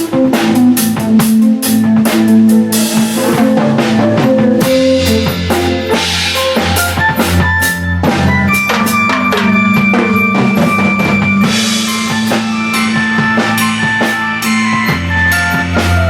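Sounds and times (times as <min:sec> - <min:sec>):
drum kit playing: 0:00.0 - 0:16.0
sustained pitched notes: 0:00.0 - 0:16.0.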